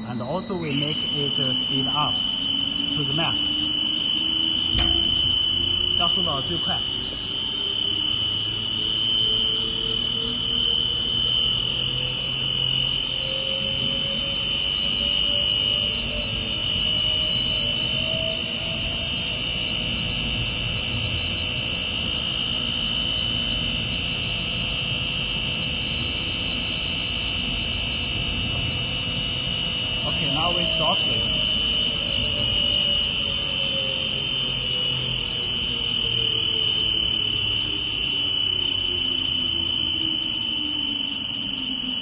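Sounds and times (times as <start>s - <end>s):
mixer drive whining: 0.0s - 19.1s, 27.4s - 42.0s.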